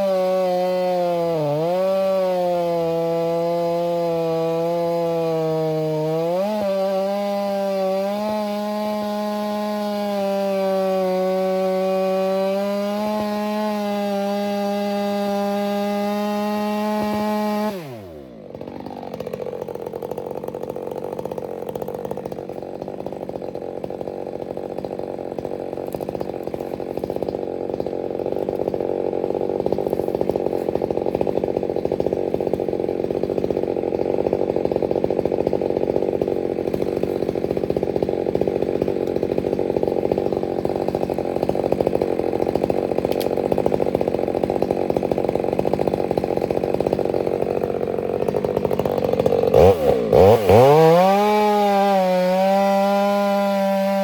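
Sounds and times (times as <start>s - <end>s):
chainsaw cutting log at full throttle: 0.0s - 54.0s.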